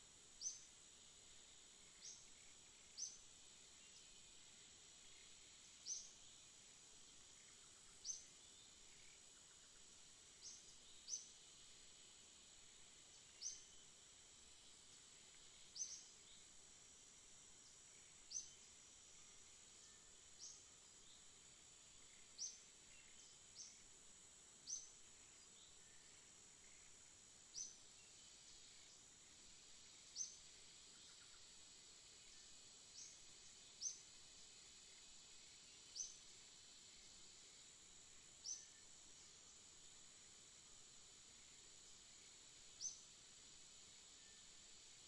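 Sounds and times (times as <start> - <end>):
steady high hiss: 0.0 - 45.0.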